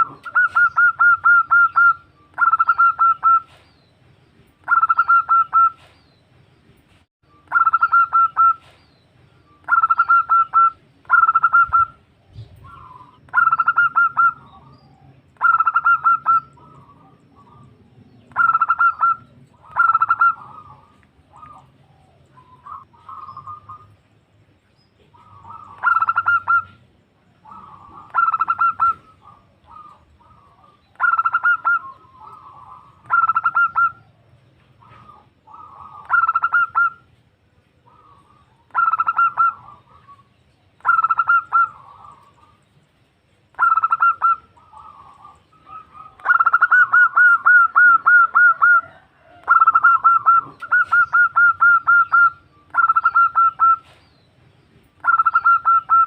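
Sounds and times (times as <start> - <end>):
dove stuttering coo: 0.0 - 3.6, 9.7 - 24.0, 25.1 - 26.8, 27.4 - 34.2, 34.8 - 37.0, 37.8 - 42.6, 43.6 - 54.1, 55.0 - 56.0.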